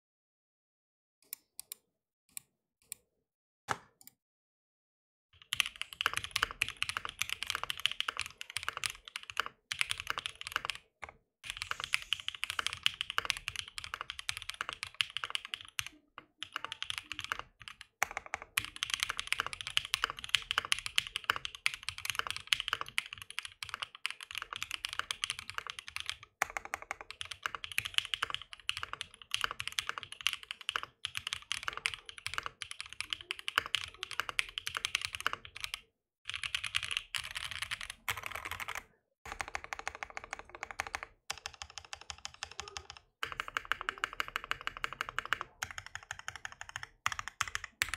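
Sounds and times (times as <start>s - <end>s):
fast typing on mechanical keyboard: 5.4s - 47.9s.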